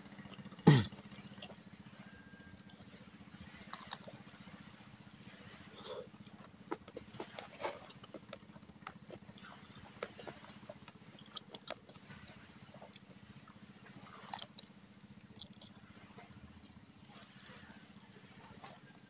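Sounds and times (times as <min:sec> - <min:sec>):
low steady hum: 0:00.0 - 0:19.0
person chewing wetly: 0:00.2 - 0:04.6, 0:05.7 - 0:19.0.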